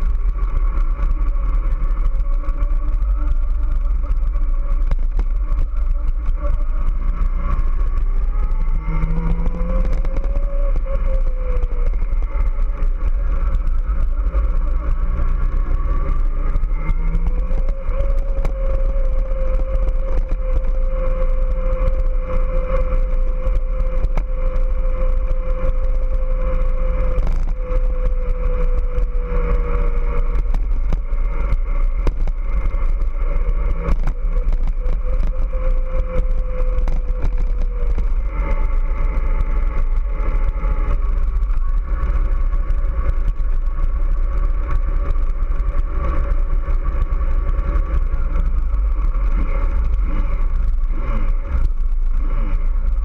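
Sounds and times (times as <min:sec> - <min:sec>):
motorcycle engine running: 0:00.0 - 0:53.0
wind buffeting on microphone: 0:00.0 - 0:53.0.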